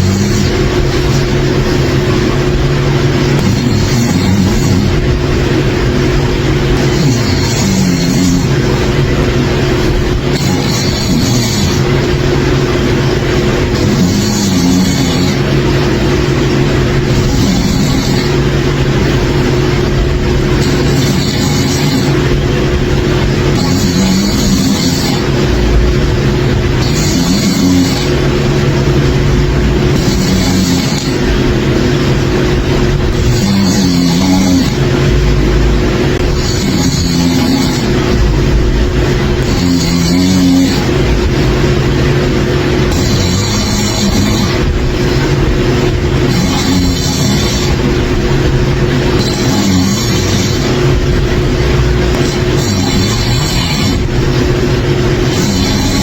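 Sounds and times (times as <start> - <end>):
person snoring loudly: 0.0 - 1.7, 3.3 - 5.3, 6.2 - 9.1, 9.7 - 12.2, 13.6 - 31.9, 32.6 - 41.3, 42.8 - 45.3, 46.0 - 48.0, 49.1 - 50.9, 51.8 - 54.2, 55.2 - 56.0.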